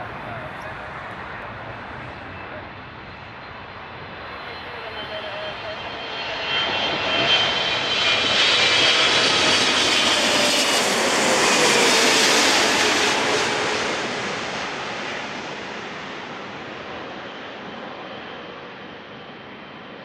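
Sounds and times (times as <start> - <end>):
jet airliner passing overhead: 0.0 - 20.0
jet engine whine: 0.0 - 20.0.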